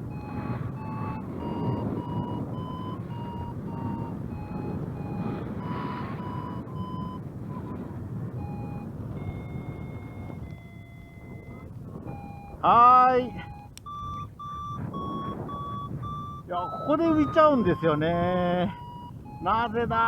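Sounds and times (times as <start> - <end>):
variometer beeping: 0.0 - 20.0
wind rumble on microphone: 0.0 - 20.0.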